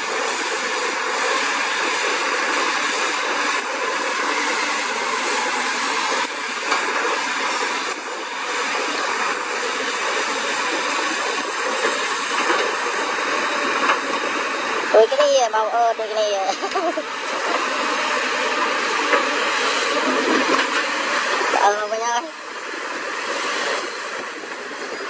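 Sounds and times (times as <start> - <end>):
excavator diesel engine and hydraulics: 0.0 - 25.0
other excavators working: 0.0 - 25.0.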